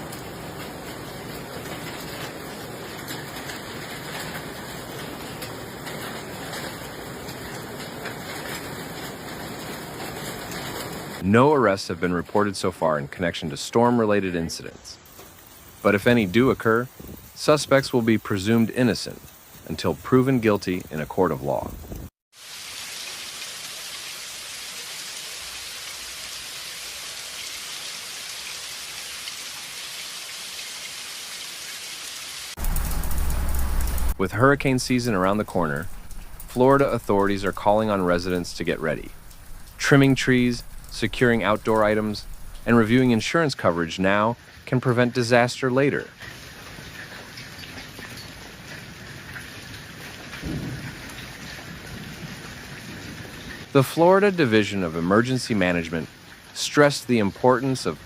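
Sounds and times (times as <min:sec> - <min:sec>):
rain drops ticking: 0:00.0 - 0:58.0
steady rain hiss: 0:00.0 - 0:58.0.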